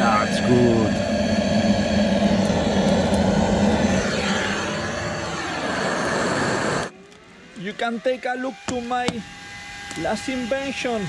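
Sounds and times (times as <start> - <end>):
whine falling in pitch: 0.0 - 9.2
engine drone: 0.0 - 11.0.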